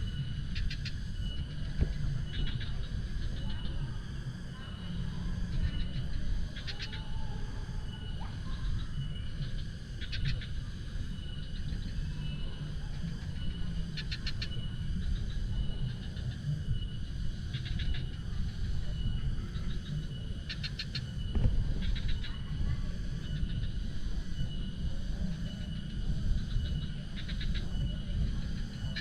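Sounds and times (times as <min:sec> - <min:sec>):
animals chirping: 0:00.0 - 0:29.0.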